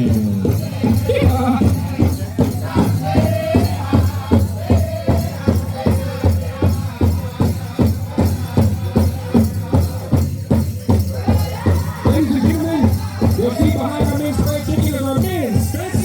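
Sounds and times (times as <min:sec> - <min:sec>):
big drum beat: 0:00.0 - 0:16.0
group singing in chorus: 0:00.0 - 0:16.0.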